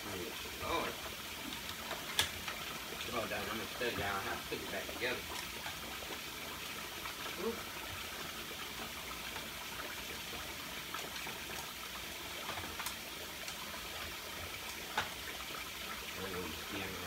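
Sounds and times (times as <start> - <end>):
faucet running into sink: 0.0 - 17.0.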